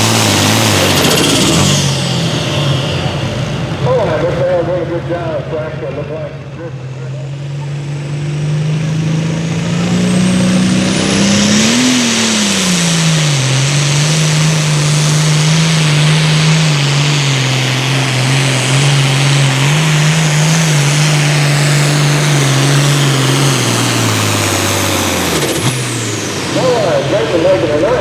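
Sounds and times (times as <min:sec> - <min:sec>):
diesel tractor engine under load: 0:00.0 - 0:28.0.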